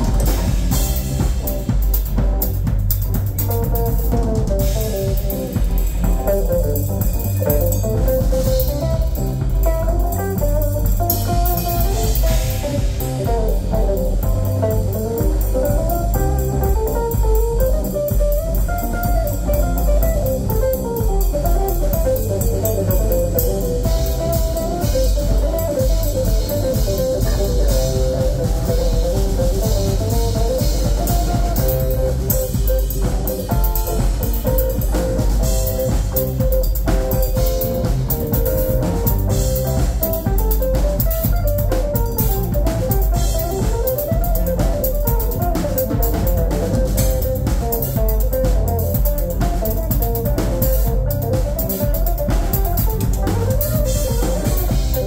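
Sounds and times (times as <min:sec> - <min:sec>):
bass guitar: 0:00.0 - 0:55.0
drum kit with cymbals: 0:00.0 - 0:55.0
lead electric guitar melody: 0:03.5 - 0:55.0.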